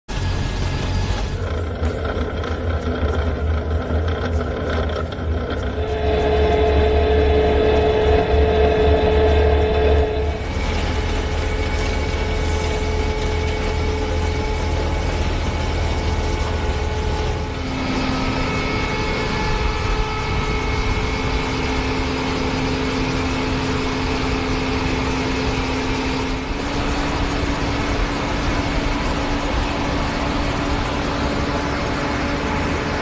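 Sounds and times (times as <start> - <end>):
harvester machinery din: 0.1 - 33.0
tractor engine running: 0.1 - 33.0.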